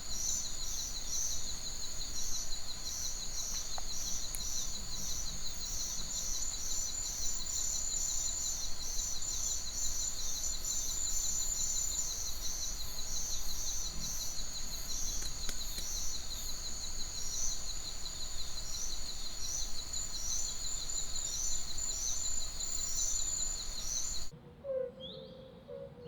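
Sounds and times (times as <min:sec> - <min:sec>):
high fast-pulsing insect trill: 0:00.0 - 0:24.3
bird chirps: 0:00.0 - 0:26.0.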